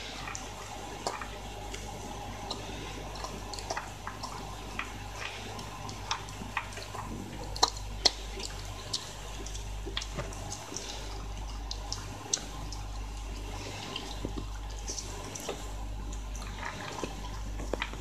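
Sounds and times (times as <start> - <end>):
dog chewing dry kibble: 0.0 - 18.0.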